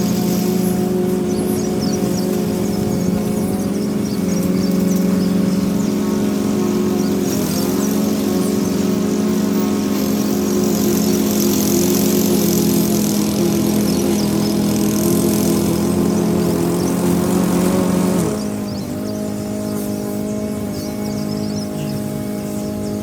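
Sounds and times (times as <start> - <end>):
lawn mower running: 0.0 - 23.0.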